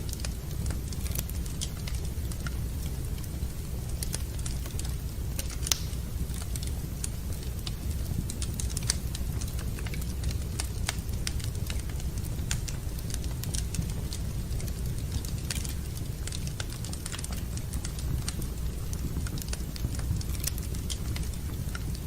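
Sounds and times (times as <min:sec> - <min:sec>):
fire low rumble: 0:00.0 - 0:22.0
wood fire crackling: 0:00.0 - 0:22.0.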